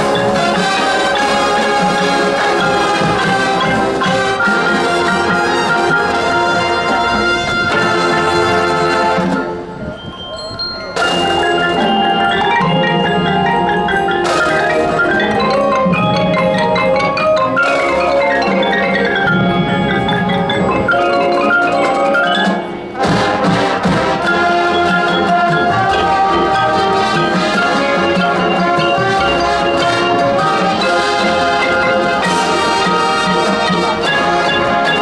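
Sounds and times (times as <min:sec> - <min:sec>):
held band chords: 0:00.0 - 0:35.0
marching band mallet percussion: 0:00.0 - 0:35.0.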